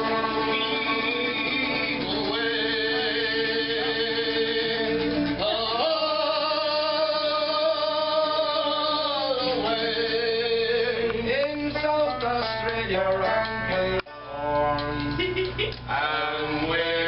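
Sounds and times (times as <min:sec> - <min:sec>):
plucked banjo and guitar: 0:00.0 - 0:08.7, 0:09.4 - 0:17.0
long held melody line: 0:00.0 - 0:15.4.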